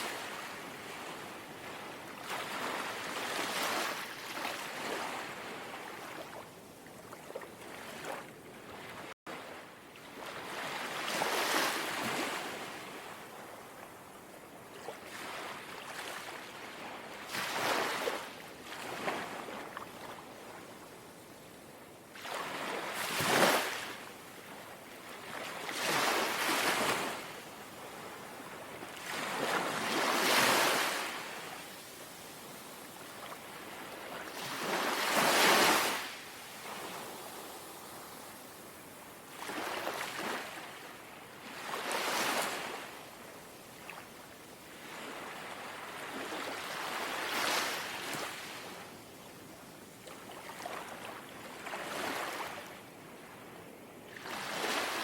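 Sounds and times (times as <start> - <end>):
sea waves lapping ashore: 0.0 - 6.4, 7.1 - 21.0, 22.1 - 55.0.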